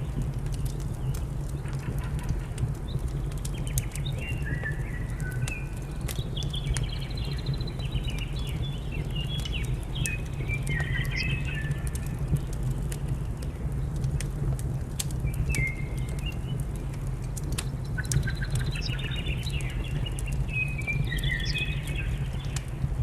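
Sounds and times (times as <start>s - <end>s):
songbirds chirping: 0.0s - 23.0s
wood fire crackling and popping: 0.0s - 23.0s.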